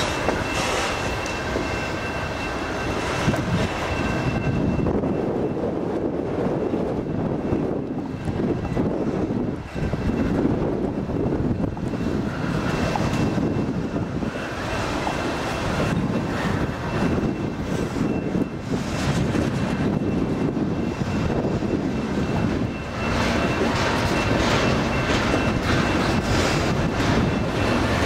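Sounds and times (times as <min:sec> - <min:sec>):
train clatter: 0:00.0 - 0:28.0
train wheels rumbling on rails: 0:00.0 - 0:28.0.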